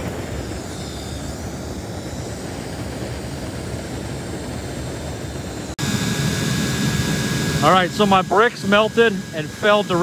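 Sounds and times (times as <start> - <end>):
burner rushing noise: 0.0 - 10.0.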